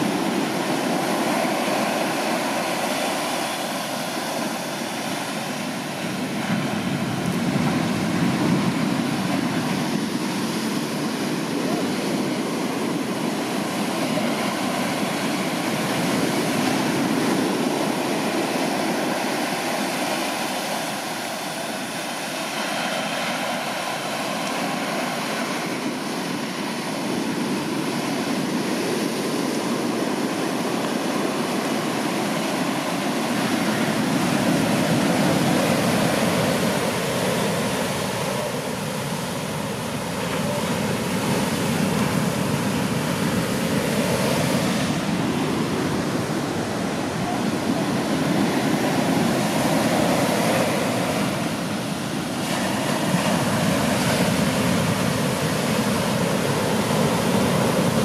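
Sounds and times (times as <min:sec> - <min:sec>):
surf breaking on beach: 0:00.0 - 0:58.0.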